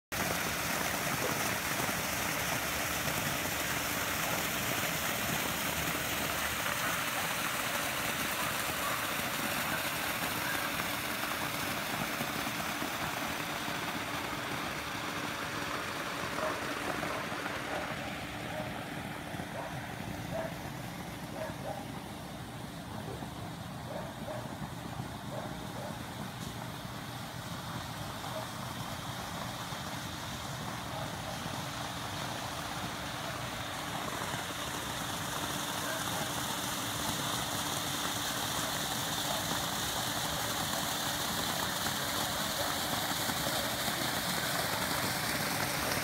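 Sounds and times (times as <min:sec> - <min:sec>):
water splashing into pool: 0:00.1 - 0:22.8, 0:27.2 - 0:46.0.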